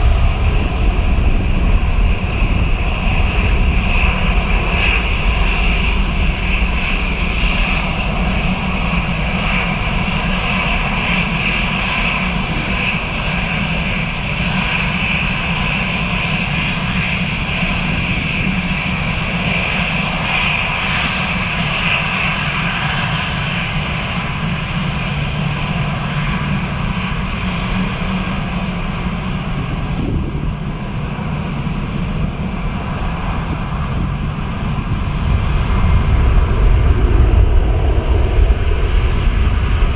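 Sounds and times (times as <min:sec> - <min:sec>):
jet engine roar with high whine: 0:00.0 - 0:39.9.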